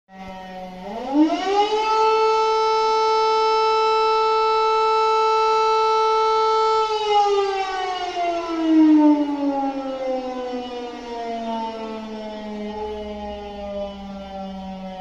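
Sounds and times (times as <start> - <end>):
air-raid siren winding down: 0.1 - 15.0.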